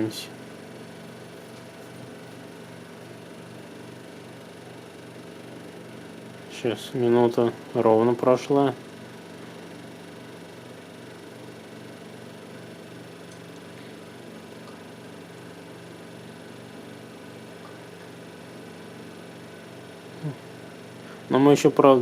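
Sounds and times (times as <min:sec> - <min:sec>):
laptop cooling fan whirring: 0:00.0 - 0:22.0.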